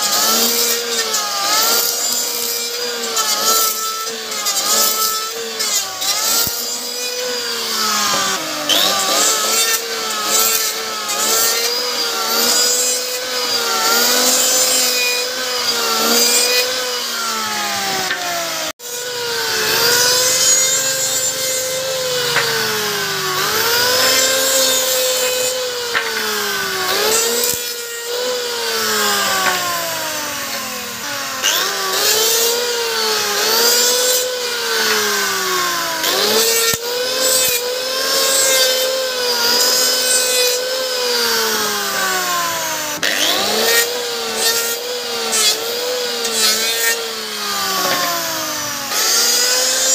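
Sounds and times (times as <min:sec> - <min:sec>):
electric planer motor whine: 0:00.0 - 0:49.9.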